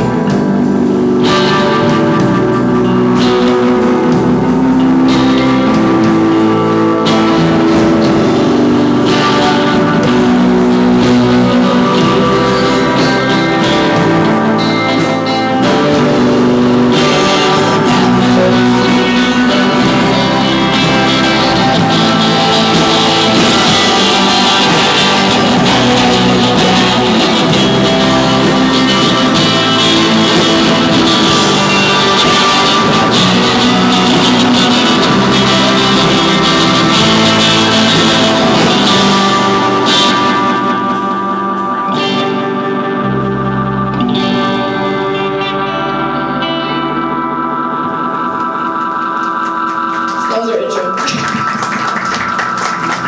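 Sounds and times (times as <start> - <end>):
electric guitar: 0.0 - 53.0
live rock band playing: 0.0 - 53.0.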